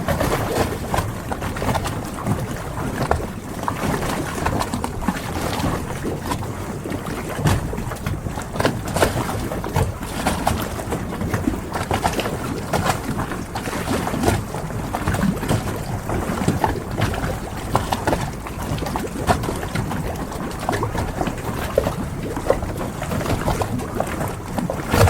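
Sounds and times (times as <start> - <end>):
low rumble of wind: 0.0 - 25.0
water sloshing around boats: 0.0 - 25.0.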